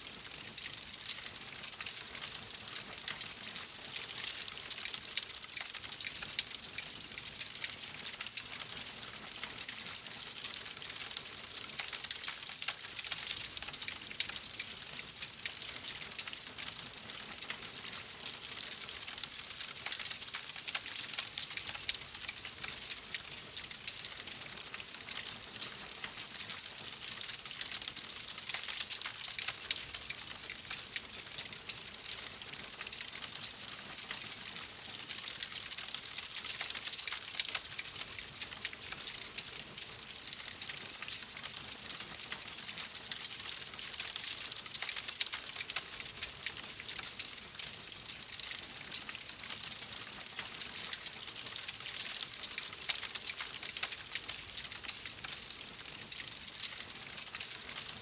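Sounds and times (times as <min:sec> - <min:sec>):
wood fire crackling: 0:00.0 - 0:49.4, 0:50.0 - 0:58.0
steady rain: 0:00.0 - 0:58.0.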